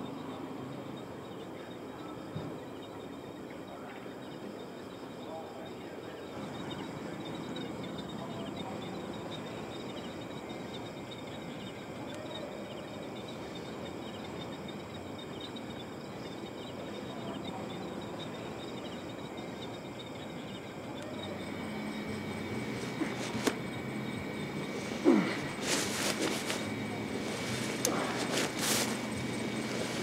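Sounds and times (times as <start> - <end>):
crickets chirping: 0.0 - 30.0
steady night hiss: 0.0 - 30.0.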